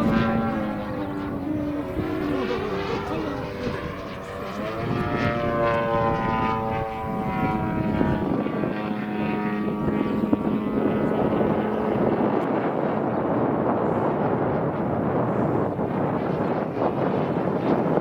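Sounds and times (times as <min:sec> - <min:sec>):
model airplane motor buzzing: 0:00.0 - 0:18.0.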